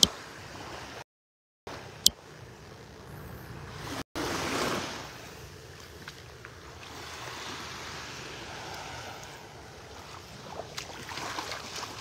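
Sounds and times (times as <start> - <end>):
light surf: 1.7 - 12.0.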